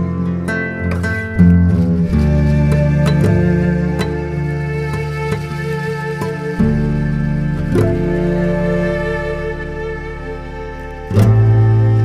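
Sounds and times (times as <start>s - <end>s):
low sustained notes: 0.0s - 12.0s
plucked acoustic guitar: 0.0s - 12.0s.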